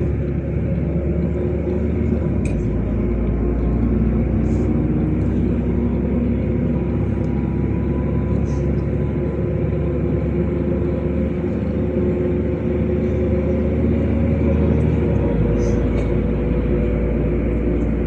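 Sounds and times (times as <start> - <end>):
bus engine running: 0.0 - 18.0
road rumble: 0.0 - 18.0.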